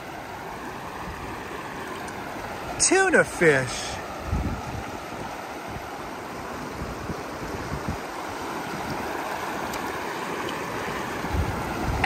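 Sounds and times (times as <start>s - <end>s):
river flowing over stones: 0.0s - 12.0s.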